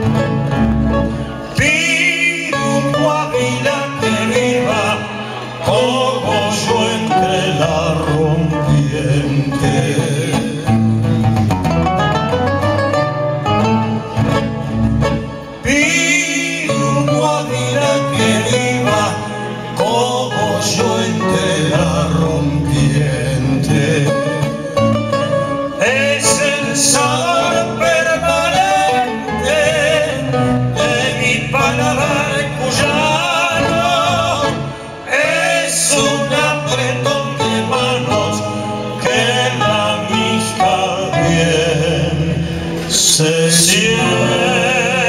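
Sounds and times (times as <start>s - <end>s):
acoustic guitars: 0.0s - 45.0s
man singing with vibrato: 0.0s - 45.0s.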